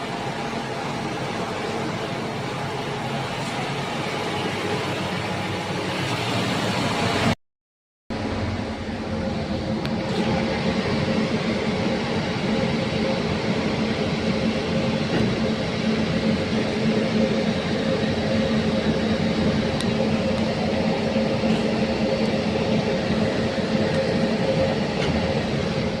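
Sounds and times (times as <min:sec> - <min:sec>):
electric locomotive hum: 0:00.0 - 0:07.4, 0:08.1 - 0:26.0.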